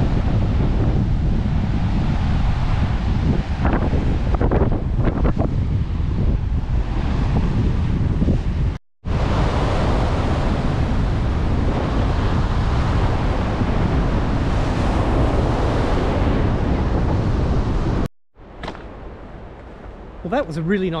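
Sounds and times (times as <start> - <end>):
sea surf breaking: 0.0 - 19.4
wind buffeting microphone: 0.0 - 21.0.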